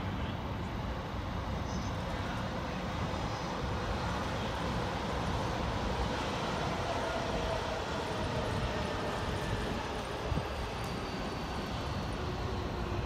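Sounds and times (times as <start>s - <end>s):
electric train rumbling: 0.0s - 13.0s
faint train whine: 0.0s - 13.0s.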